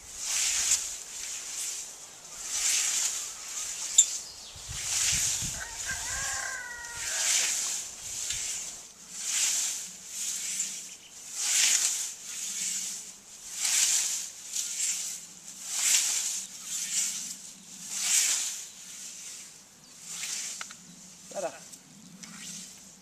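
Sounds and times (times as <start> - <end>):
scythe swishing through grass: 0.0 - 23.0.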